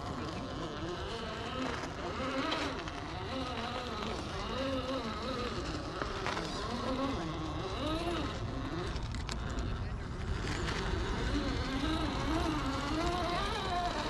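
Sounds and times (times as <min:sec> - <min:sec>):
toy car electric motor whining: 0:00.0 - 0:14.0.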